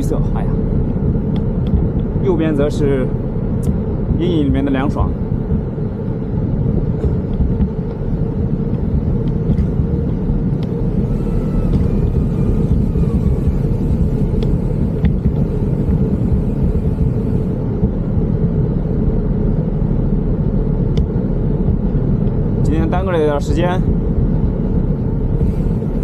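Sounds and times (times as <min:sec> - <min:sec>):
tyre and road noise: 0:00.0 - 0:26.0
wind buffeting microphone: 0:00.0 - 0:26.0.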